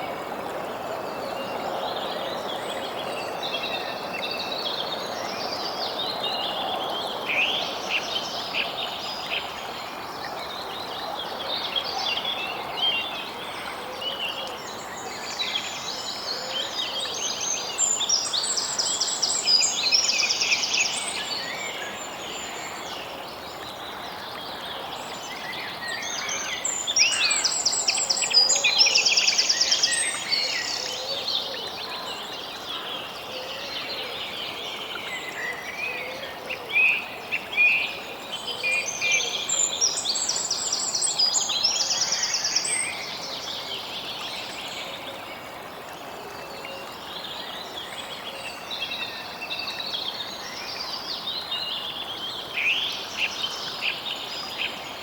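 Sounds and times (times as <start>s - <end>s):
soft steady outdoor hiss: 0.0s - 55.0s
songbirds singing and chirping: 0.0s - 55.0s.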